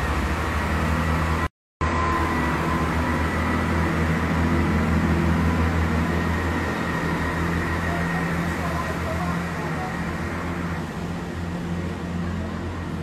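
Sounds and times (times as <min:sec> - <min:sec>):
train engine humming: 0:00.0 - 0:13.0.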